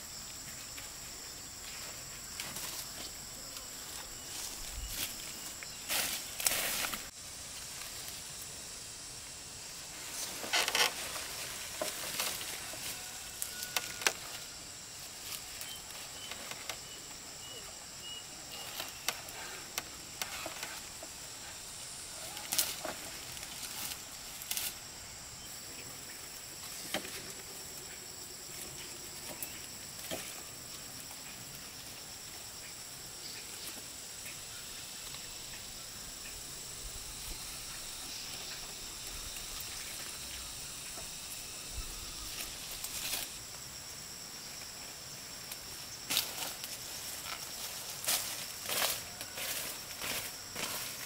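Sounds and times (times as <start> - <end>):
rustling and scraping in soil: 0.0 - 17.2, 18.0 - 32.6, 36.6 - 51.0.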